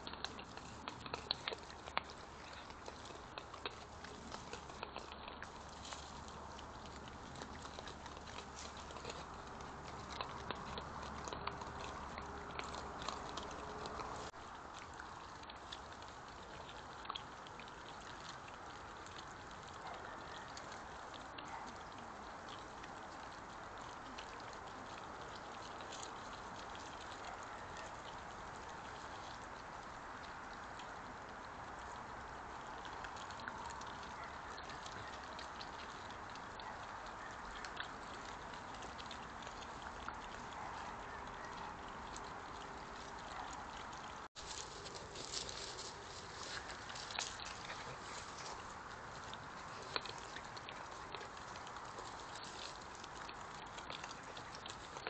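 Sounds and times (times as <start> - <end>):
badgers crunching and rustling in grass: 0.0 - 30.8, 32.8 - 55.0.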